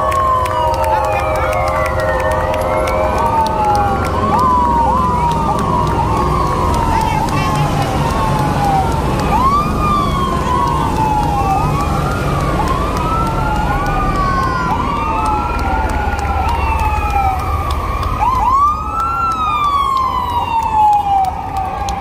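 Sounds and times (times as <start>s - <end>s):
emergency vehicle sirens: 0.0s - 22.0s
vehicle engines rumbling: 0.0s - 22.0s.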